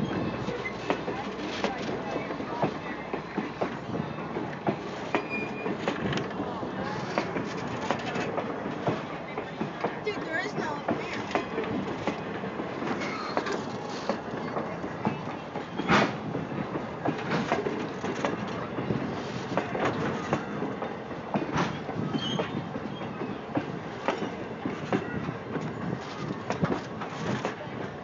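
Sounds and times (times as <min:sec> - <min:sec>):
train rumble: 0:00.0 - 0:28.0
train wheels clicking over rail joints: 0:00.0 - 0:28.0.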